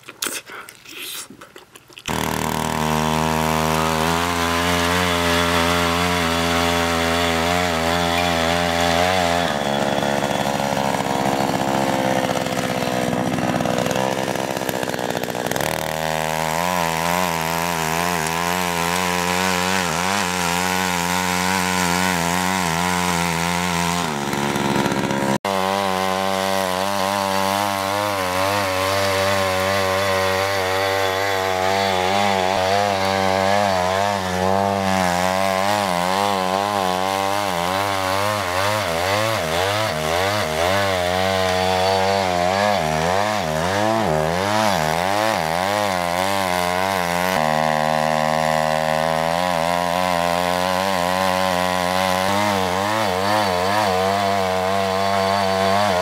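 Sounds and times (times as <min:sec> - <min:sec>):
tiller petrol engine running: 0:02.1 - 0:56.0.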